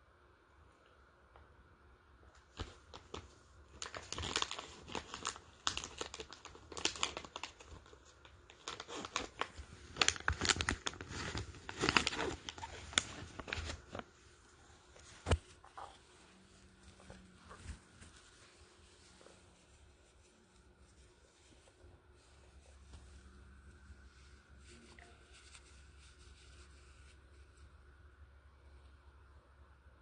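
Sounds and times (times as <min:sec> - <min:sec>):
crinkling and rustling: 0:02.3 - 0:27.7.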